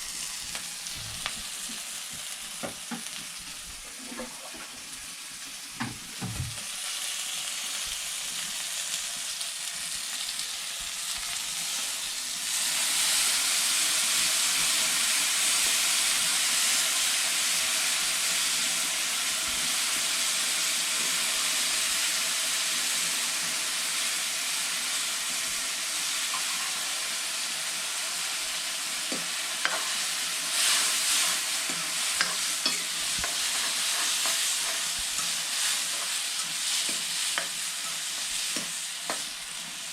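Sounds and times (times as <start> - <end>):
curry sizzling in hot oil: 0.0 - 39.9.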